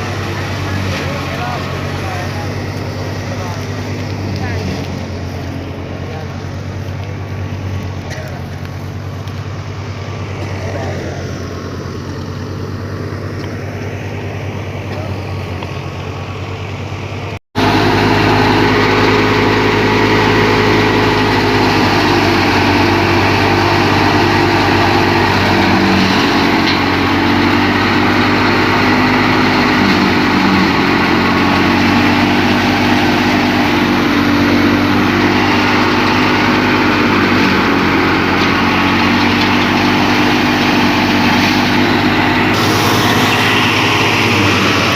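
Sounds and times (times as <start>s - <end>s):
thresher running: 0.0s - 16.2s, 17.1s - 44.9s
tractor engine running: 0.0s - 44.9s.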